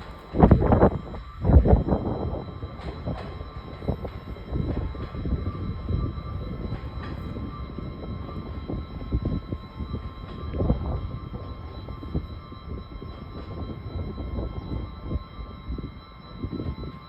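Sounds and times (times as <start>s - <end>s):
faint high whine: 0.0s - 17.0s
train low rumble: 0.0s - 17.0s.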